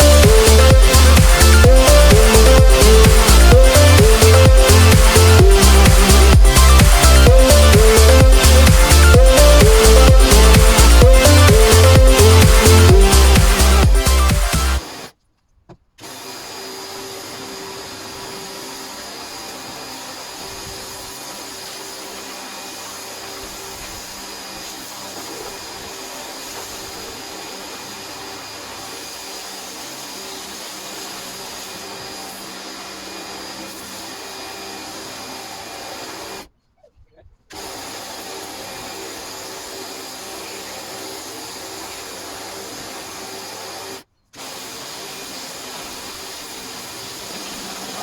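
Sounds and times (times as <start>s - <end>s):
small electric motor humming: 0.0s - 15.1s, 16.0s - 36.4s, 37.5s - 48.0s.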